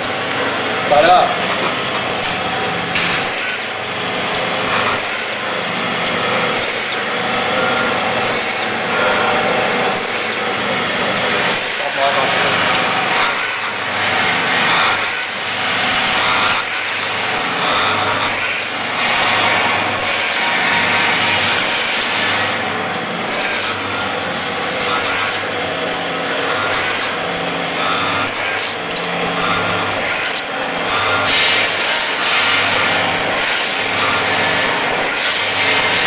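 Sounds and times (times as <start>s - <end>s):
packaging machine whirring: 0.0s - 36.0s.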